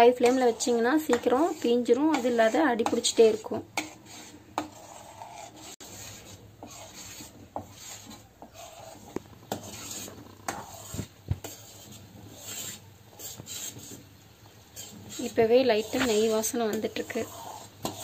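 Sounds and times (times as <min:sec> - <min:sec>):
spoon scraping steel pan: 0:00.0 - 0:14.1, 0:14.7 - 0:18.0.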